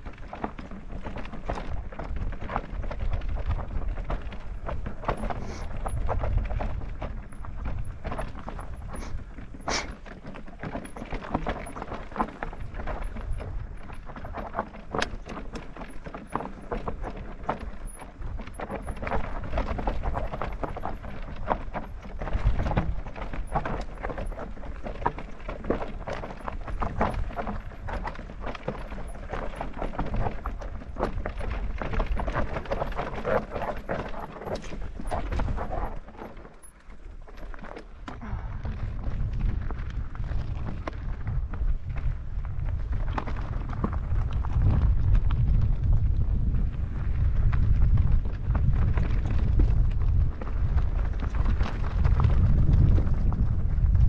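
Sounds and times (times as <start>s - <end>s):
bike clattering on rocky trail: 0.0s - 54.0s
wind rumble on microphone: 0.0s - 54.0s.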